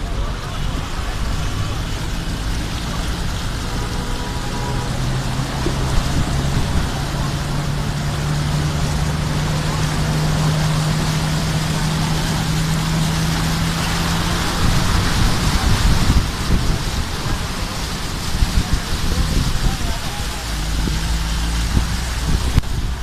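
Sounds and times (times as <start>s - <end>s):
engine hum: 0.0s - 23.0s
wheels splashing through water: 0.0s - 23.0s.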